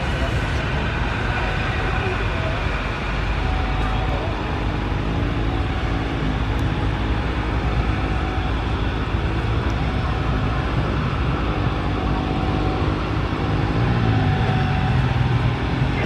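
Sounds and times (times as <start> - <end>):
loud engine rumble: 0.0 - 16.0.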